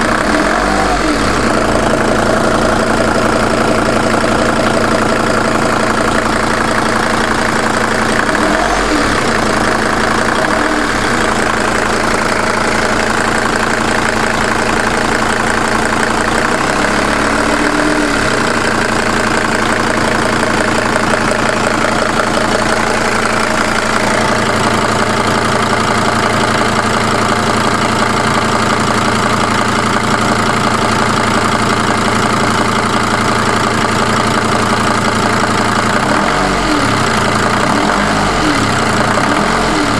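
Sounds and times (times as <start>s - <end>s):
diesel engine idling: 0.0s - 39.9s
engine knock: 0.0s - 39.9s.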